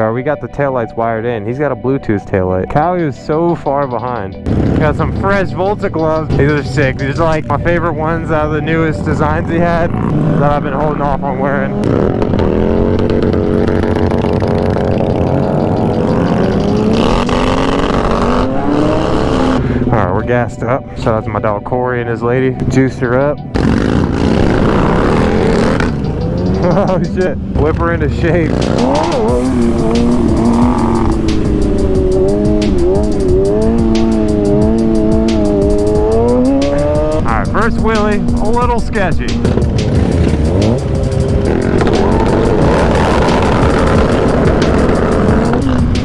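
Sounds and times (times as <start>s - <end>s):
motorcycle engine running: 3.7s - 20.0s, 23.4s - 46.0s.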